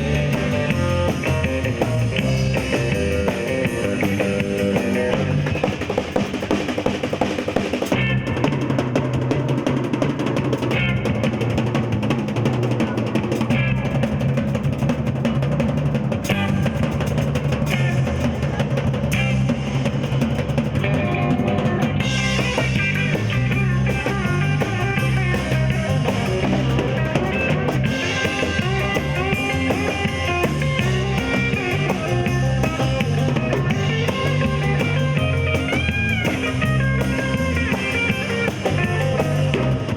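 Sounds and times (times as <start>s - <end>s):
drum kit: 0.0s - 39.9s
rock band playing: 0.0s - 39.9s.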